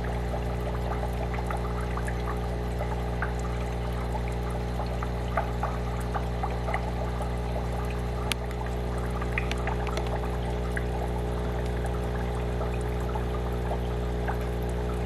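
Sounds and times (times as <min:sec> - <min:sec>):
aquarium filter bubbling: 0:00.0 - 0:15.0
steady low hum: 0:00.0 - 0:15.0.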